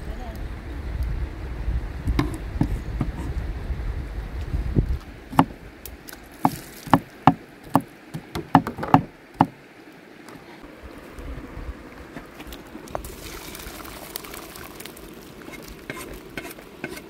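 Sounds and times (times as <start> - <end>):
river running: 0.0 - 17.0.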